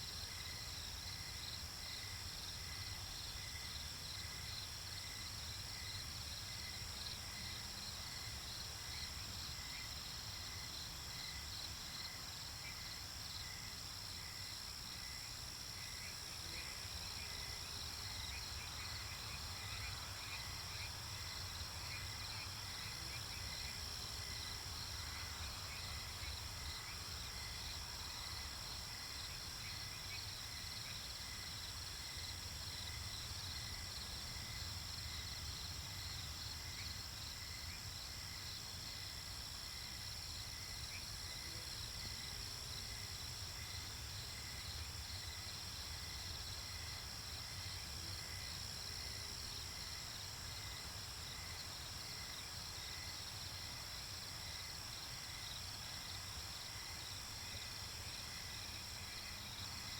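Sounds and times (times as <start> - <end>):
continuous high insect trill: 0.0 - 59.9
crickets chirping: 0.0 - 59.9.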